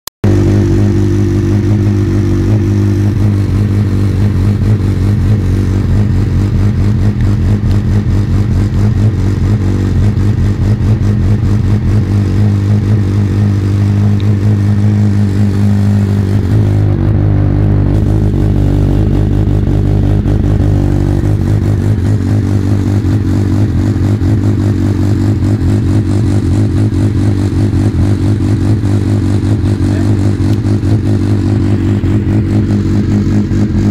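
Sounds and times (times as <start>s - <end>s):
motorcycle engine running: 0.2s - 33.9s.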